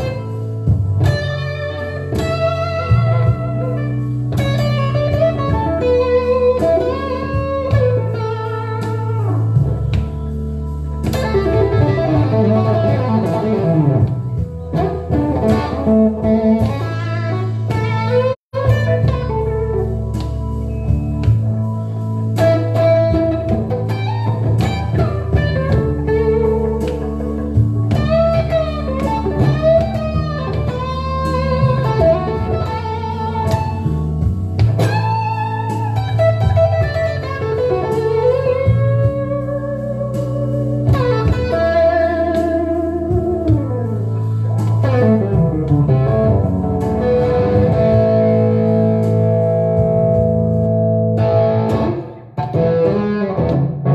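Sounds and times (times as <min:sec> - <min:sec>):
electric guitar blues lead: 0:00.0 - 0:53.9
low sustained guitar notes: 0:00.0 - 0:53.9.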